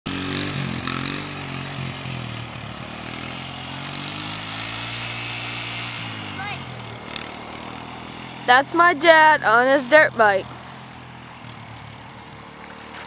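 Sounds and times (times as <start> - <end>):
dirt bike engine running: 0.1 - 13.0.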